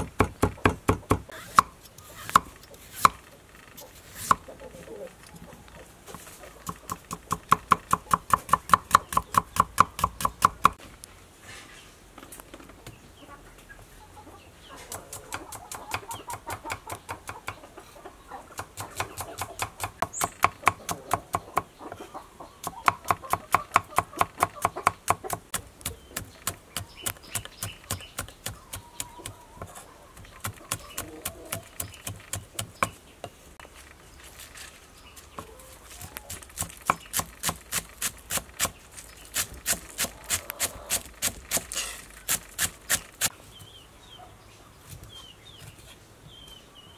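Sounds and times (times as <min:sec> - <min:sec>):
chickens clucking: 0:00.0 - 0:10.8, 0:11.8 - 0:46.9.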